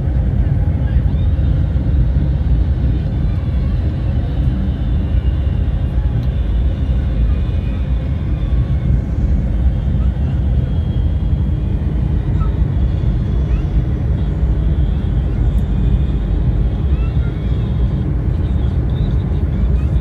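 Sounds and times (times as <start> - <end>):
motor vehicle rumble: 0.0 - 20.0.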